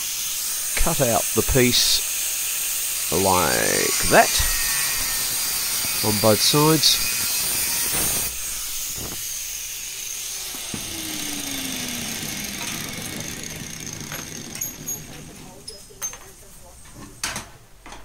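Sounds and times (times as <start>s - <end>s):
grinder motor winding down: 0.0s - 15.8s
angle grinder cutting metal: 0.0s - 16.0s.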